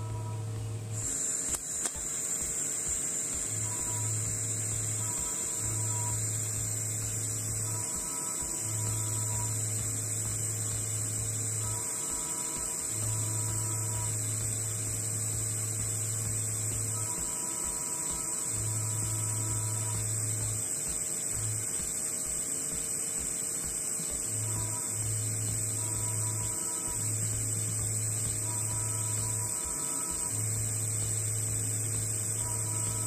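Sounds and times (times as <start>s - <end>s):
low buzz: 0.0s - 33.0s
welding arc hum and whine: 0.0s - 33.0s.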